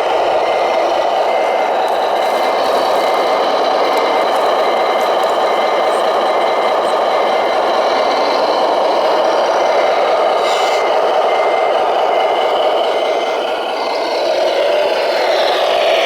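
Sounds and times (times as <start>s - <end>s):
reversing beeper beeps: 0.0s - 14.2s.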